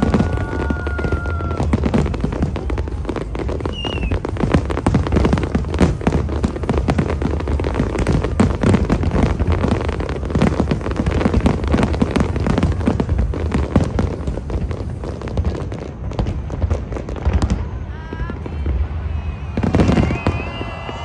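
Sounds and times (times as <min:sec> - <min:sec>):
fireworks booms and crackling: 0:00.0 - 0:21.0.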